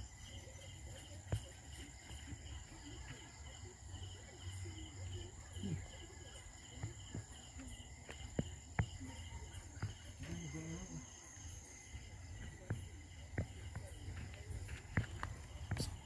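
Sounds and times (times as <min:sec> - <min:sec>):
crickets chirping: 0:00.0 - 0:16.0
high insect trill: 0:00.0 - 0:16.0.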